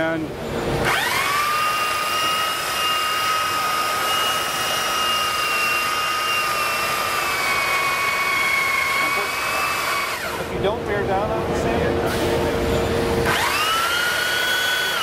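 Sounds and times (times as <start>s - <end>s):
belt sander whining: 0.7s - 10.8s, 12.2s - 15.0s.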